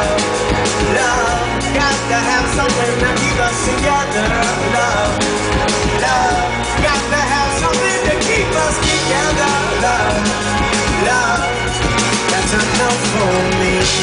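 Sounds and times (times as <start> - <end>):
live pop-rock band: 0.0 - 14.0
person singing: 0.0 - 14.0.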